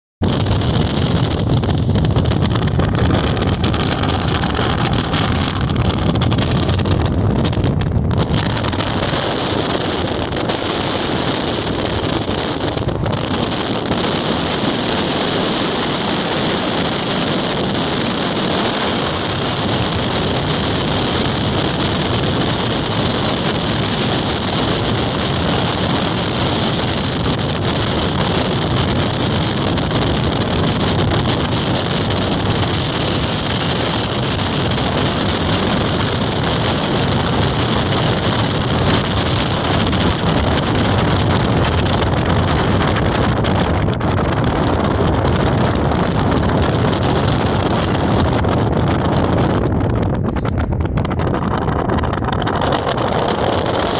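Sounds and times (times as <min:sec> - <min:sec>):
vehicle rumble: 0:00.2 - 0:53.9
wind buffeting microphone: 0:00.2 - 0:53.9.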